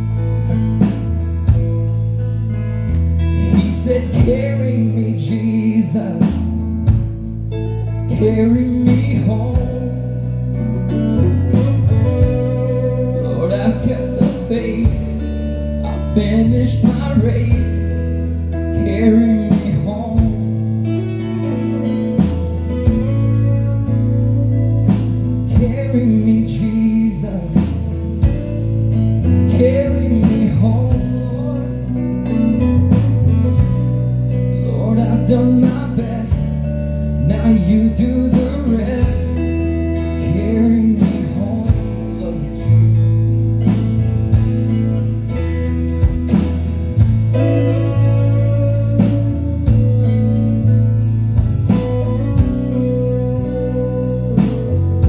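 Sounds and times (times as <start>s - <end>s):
bending lead guitar notes: 0.0s - 55.0s
live band instrumental: 0.0s - 55.0s
low bass notes: 0.0s - 55.0s.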